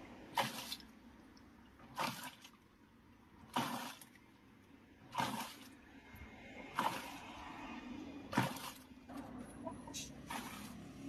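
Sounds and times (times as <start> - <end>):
washing machine agitating water: 0.0 - 11.0.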